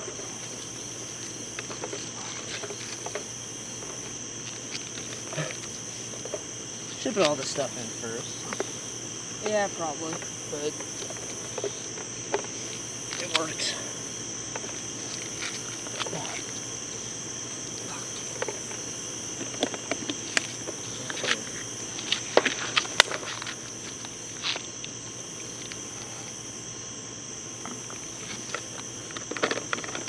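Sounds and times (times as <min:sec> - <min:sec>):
night insects chirring: 0:00.0 - 0:30.0.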